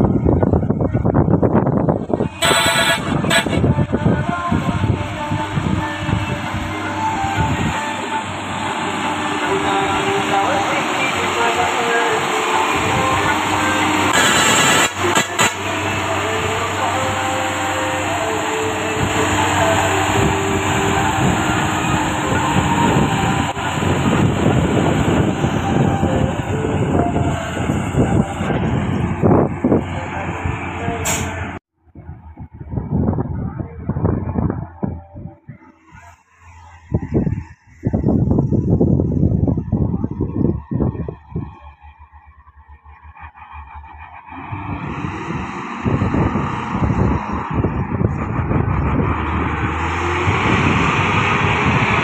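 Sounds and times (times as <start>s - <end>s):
truck diesel engine driving past: 1.8s - 31.6s, 34.2s - 52.0s.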